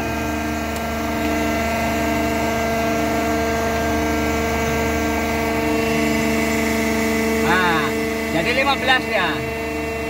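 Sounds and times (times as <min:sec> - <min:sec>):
crane electric motor hum: 0:00.0 - 0:10.0.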